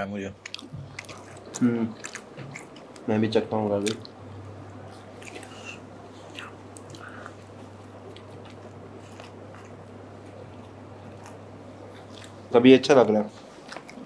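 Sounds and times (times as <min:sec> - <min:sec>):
steady low hum: 0:00.0 - 0:14.0
chewing and biting food: 0:00.4 - 0:03.1, 0:03.7 - 0:12.5, 0:13.3 - 0:14.0.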